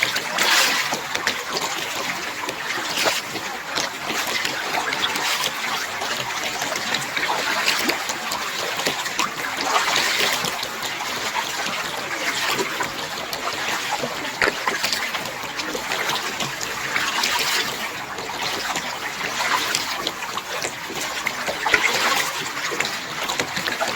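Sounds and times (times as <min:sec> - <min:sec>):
paddle water splashing: 0:00.0 - 0:23.9.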